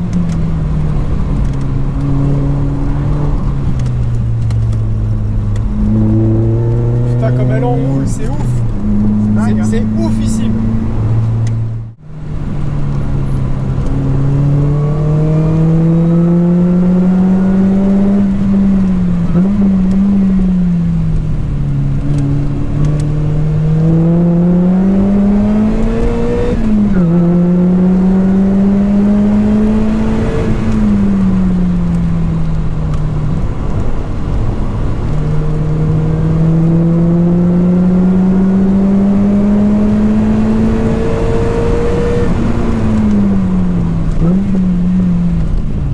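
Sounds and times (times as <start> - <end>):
car engine revving through gears: 0.0 - 45.8.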